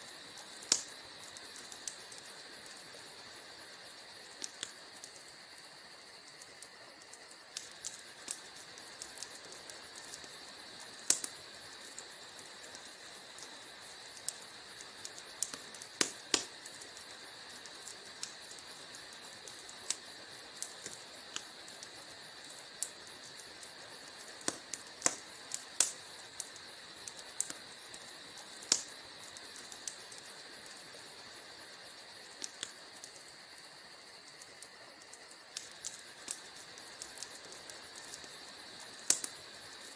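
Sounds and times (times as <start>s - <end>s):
wood fire crackling: 0.0s - 39.9s
sharp pops and snaps: 0.3s - 2.8s, 3.8s - 23.0s, 23.7s - 39.9s.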